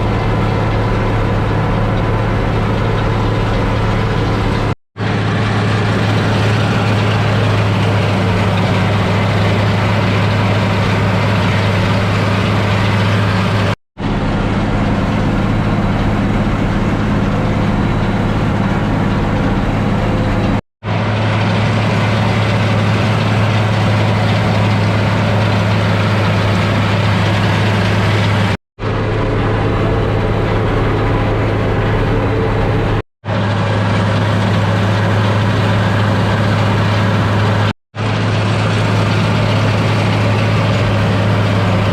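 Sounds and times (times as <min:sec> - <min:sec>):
tractor diesel engine droning: 0:00.0 - 0:41.9.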